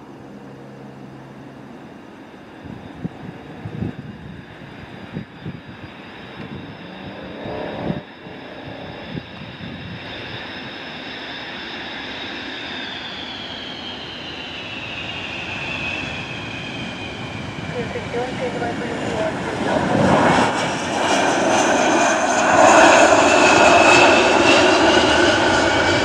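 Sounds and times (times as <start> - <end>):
high engine whine: 0.0 - 26.0
jet engines rumbling: 0.0 - 26.0.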